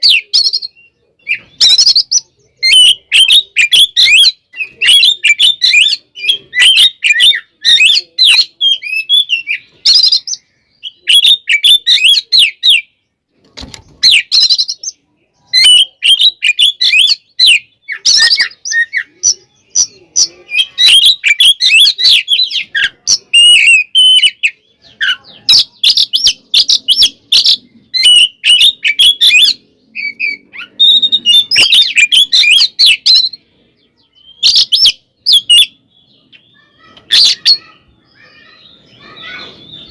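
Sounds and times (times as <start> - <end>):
songbird whistling and chattering: 0.0 - 39.9.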